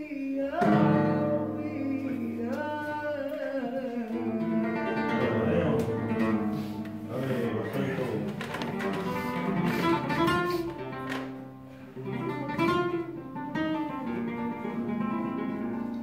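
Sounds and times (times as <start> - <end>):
solo flamenco guitar: 0.0 - 16.0.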